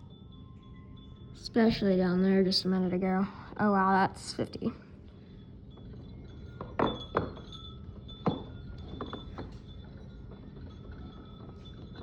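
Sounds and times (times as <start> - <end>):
wind chime ringing: 0.0 - 12.0.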